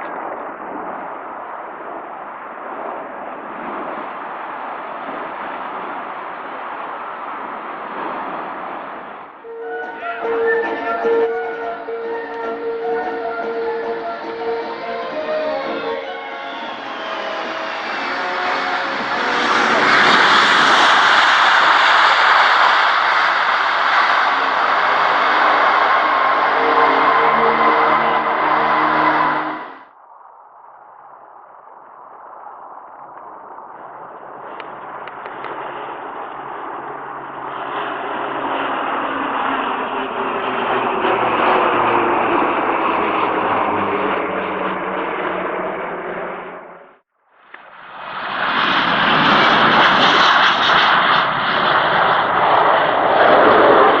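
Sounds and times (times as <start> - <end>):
jet engine roaring: 0.0 - 54.0.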